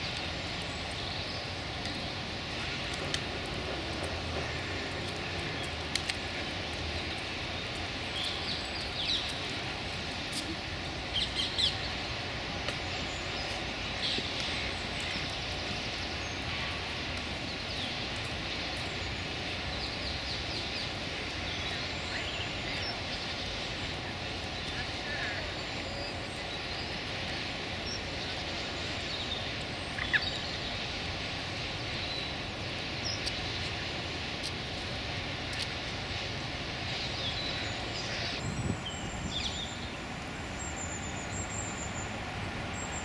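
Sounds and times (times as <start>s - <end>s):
distant traffic hum: 0.0s - 43.0s
small birds chirping: 0.0s - 43.0s.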